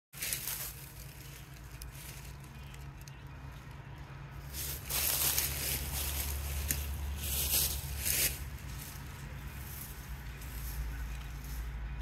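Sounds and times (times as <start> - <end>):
wind rustling dry leaves: 0.1 - 12.0
steady low rumble: 0.2 - 12.0.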